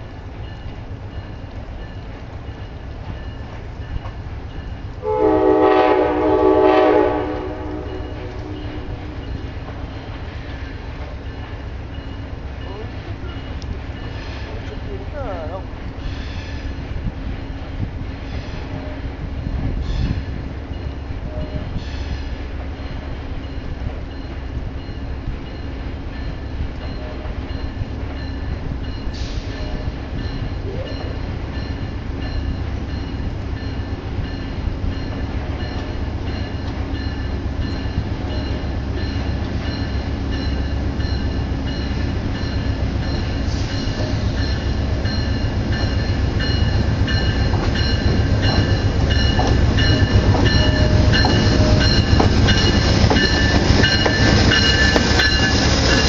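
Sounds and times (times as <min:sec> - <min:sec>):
diesel locomotive rumble: 0:00.0 - 0:56.0
locomotive bell ringing: 0:00.4 - 0:16.1, 0:22.8 - 0:56.0.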